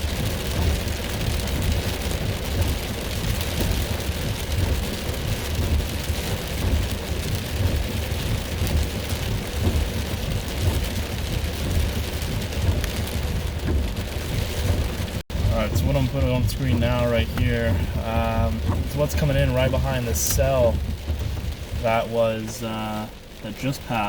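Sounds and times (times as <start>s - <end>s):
heavy rain pouring: 0.0s - 24.0s
low thunder rumble: 0.0s - 24.0s.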